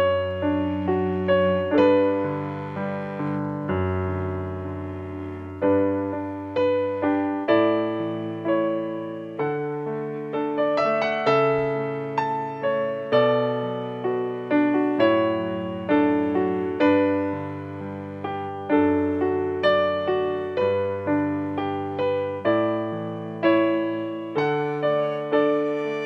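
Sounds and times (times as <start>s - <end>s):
slow solo piano: 0.0s - 26.0s.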